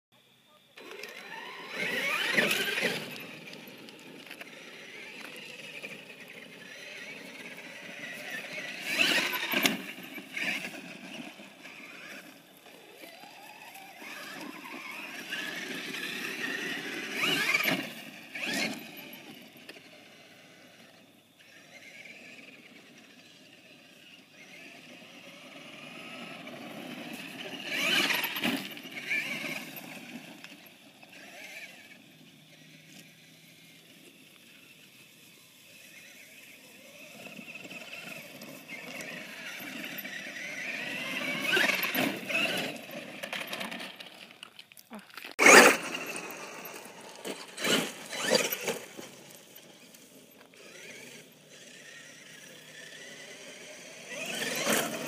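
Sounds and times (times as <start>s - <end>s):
electric motor whining: 0.6s - 44.1s, 45.4s - 55.0s.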